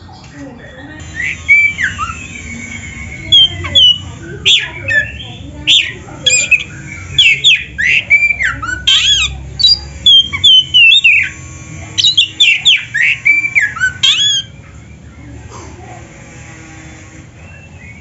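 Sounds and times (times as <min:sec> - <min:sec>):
songbird singing whistled notes: 0:00.1 - 0:11.4, 0:12.0 - 0:15.0, 0:17.4 - 0:18.0.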